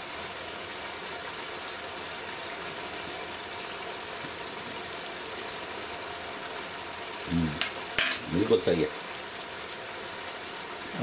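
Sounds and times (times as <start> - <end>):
curry bubbling and sizzling: 0.0 - 11.0.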